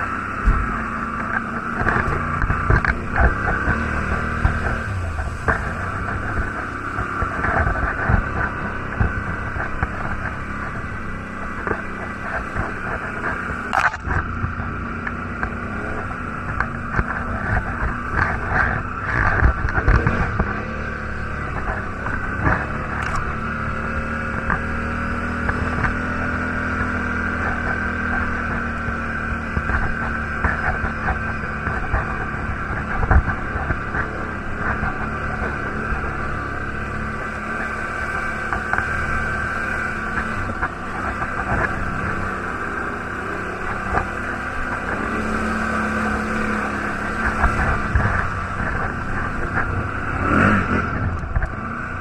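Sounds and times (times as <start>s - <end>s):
quad bike engine running: 0.0s - 52.0s.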